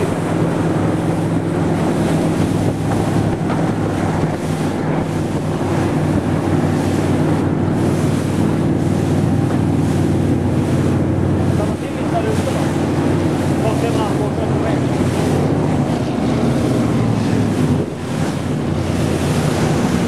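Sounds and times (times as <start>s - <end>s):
boat engine running at speed: 0.0s - 20.0s
water rushing from hull: 0.0s - 20.0s
wind noise on microphone: 0.0s - 20.0s.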